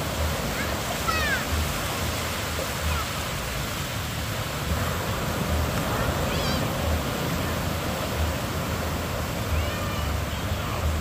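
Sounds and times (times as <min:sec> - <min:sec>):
waves washing on beach: 0:00.0 - 0:11.0
wind rumbling on microphone: 0:00.0 - 0:11.0.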